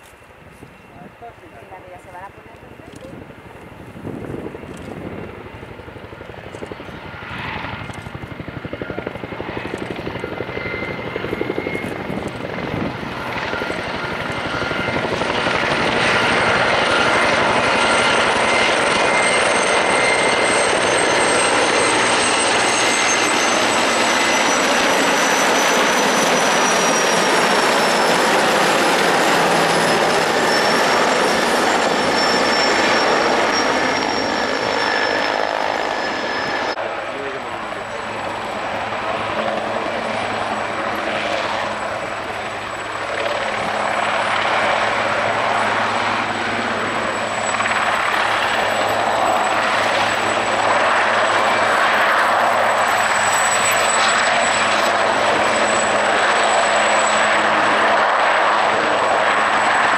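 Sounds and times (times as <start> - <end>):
helicopter rotor and turbine noise: 0.0 - 59.9.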